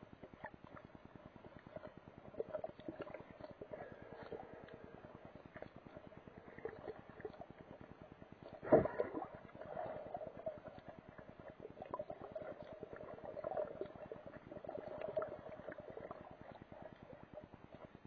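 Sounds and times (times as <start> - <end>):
underwater crackle of clicks: 0.2 - 17.9.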